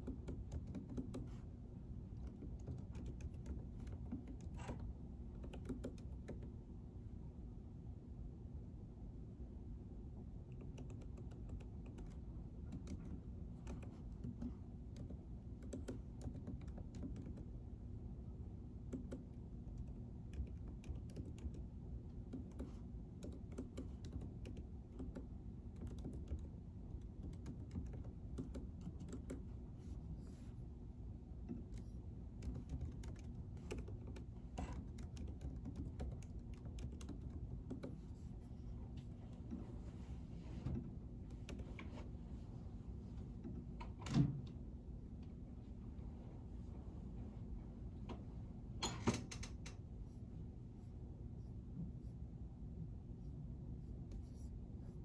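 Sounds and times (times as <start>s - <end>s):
low room hum: 0.0s - 55.0s.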